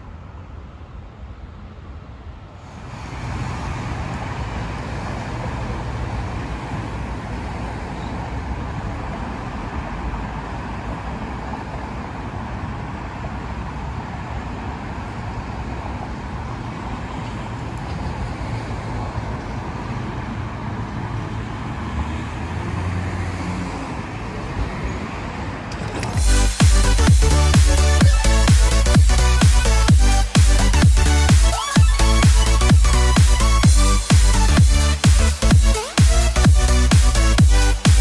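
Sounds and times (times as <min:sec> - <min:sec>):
road traffic: 0:00.0 - 0:38.0
tram arriving with low hum: 0:00.0 - 0:38.0.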